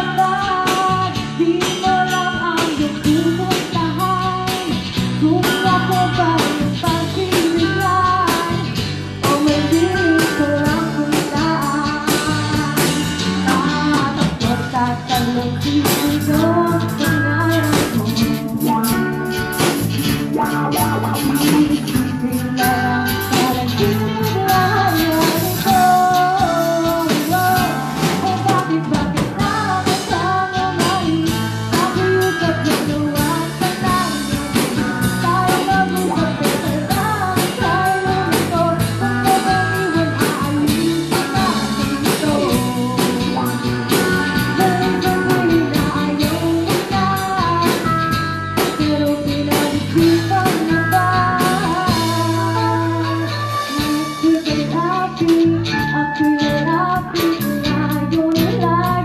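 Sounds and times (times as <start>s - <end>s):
drums: 0.0s - 59.0s
electric guitar: 0.0s - 59.0s
woman singing into microphone: 0.0s - 59.0s.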